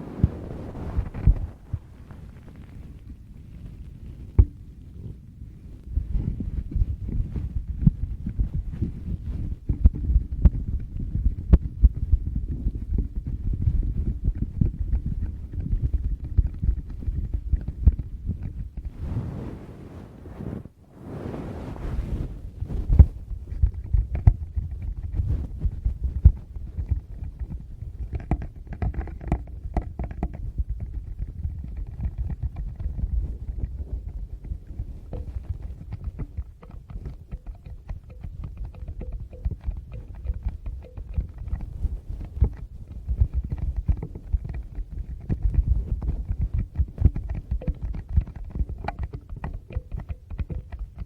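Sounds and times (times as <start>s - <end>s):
fingers rubbing on microphones: 0.0s - 51.0s.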